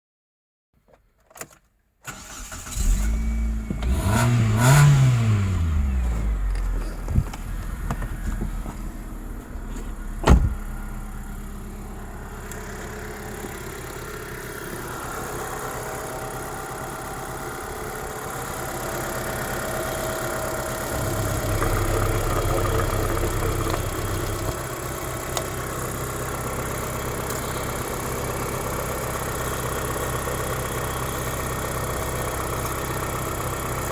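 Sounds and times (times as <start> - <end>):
car engine starting and idling: 2.1 - 33.9.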